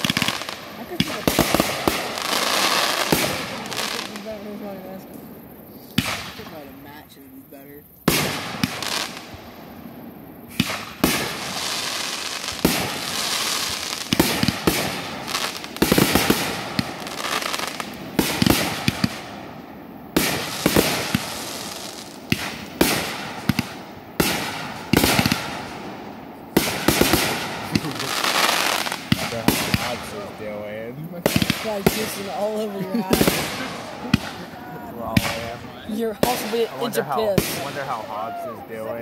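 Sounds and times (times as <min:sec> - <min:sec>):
fireworks bangs: 0:00.0 - 0:07.4, 0:08.0 - 0:38.9
fireworks crackling and hissing: 0:00.0 - 0:39.0.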